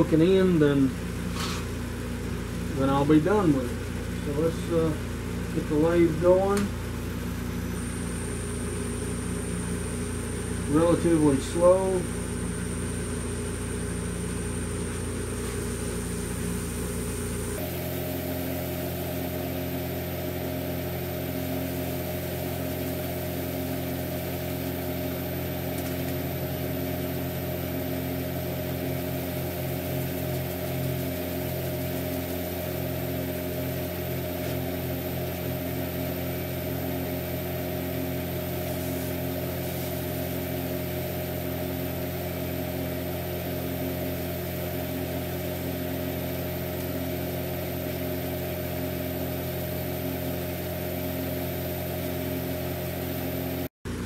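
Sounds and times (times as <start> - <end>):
wood lathe motor hum: 0.0 - 54.0.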